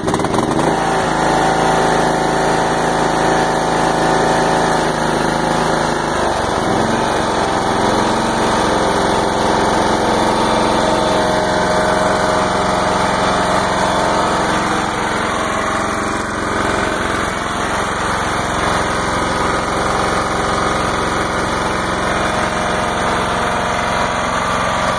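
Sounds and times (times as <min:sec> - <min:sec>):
lawn tractor engine running: 0:00.0 - 0:24.9.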